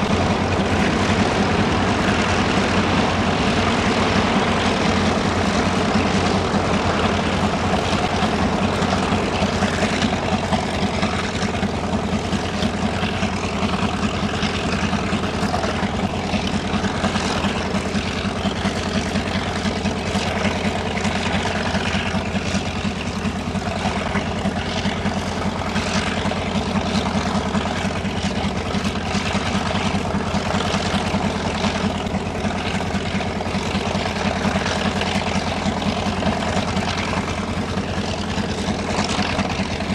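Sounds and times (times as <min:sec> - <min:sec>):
propeller aircraft engine idling: 0:00.0 - 0:39.9.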